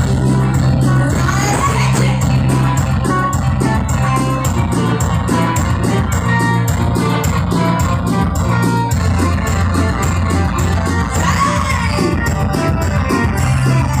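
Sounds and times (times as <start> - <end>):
amplified live dance music: 0.0 - 14.0.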